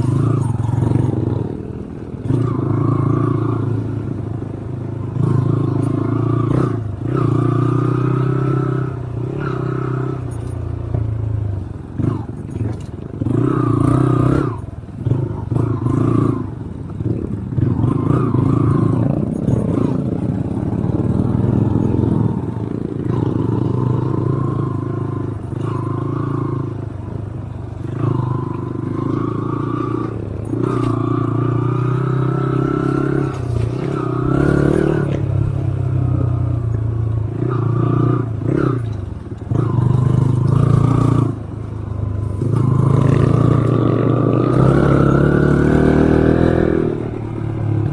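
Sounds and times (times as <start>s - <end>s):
vehicle engine revving: 0.0s - 47.9s.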